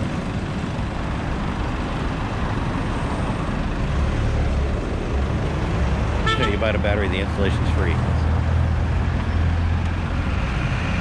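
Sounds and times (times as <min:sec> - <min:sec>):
heavy vehicle engine rumble: 0:00.0 - 0:11.0
passing vehicles: 0:00.0 - 0:11.0.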